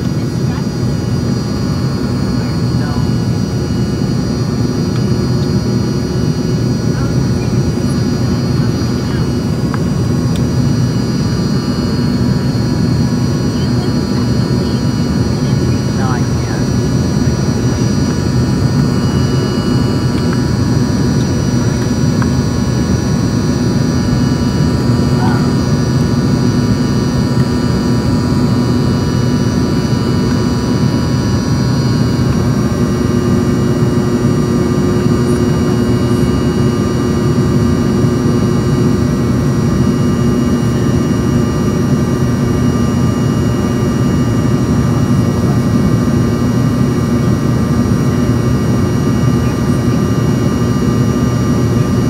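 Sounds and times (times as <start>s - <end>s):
jet engines in cabin: 0.0s - 52.0s.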